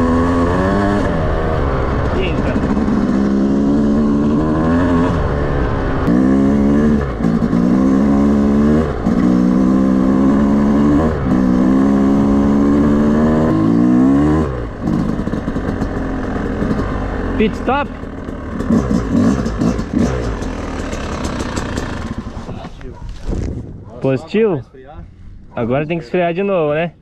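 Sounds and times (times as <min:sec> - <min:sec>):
dirt bike engine revving: 0:00.0 - 0:22.7.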